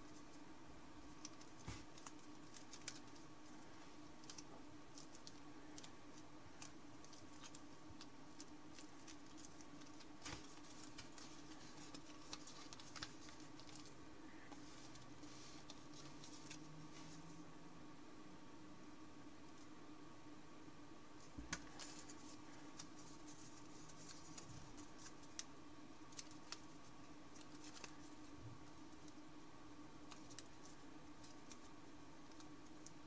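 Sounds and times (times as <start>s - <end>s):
steady low hum: 0.0s - 33.0s
paper crackling as folded: 1.0s - 17.2s, 21.5s - 29.2s, 30.0s - 33.0s.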